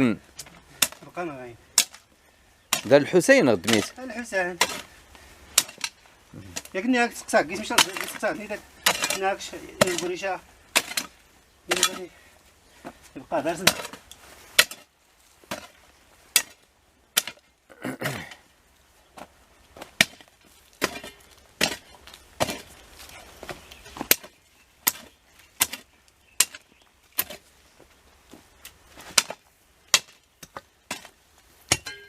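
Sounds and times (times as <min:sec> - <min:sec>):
hand tool chopping into roots: 0:00.4 - 0:02.1, 0:02.7 - 0:12.2, 0:13.4 - 0:17.5, 0:19.8 - 0:27.5, 0:28.6 - 0:32.0.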